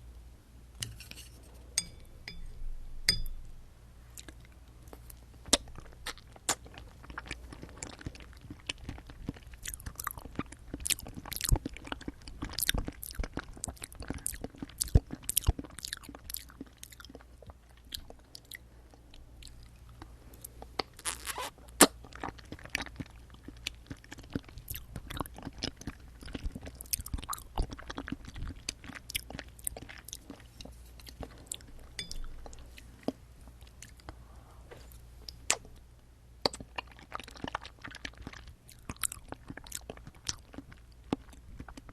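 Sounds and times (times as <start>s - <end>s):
crunching and chewing jelly: 4.1s - 34.2s, 34.8s - 41.9s.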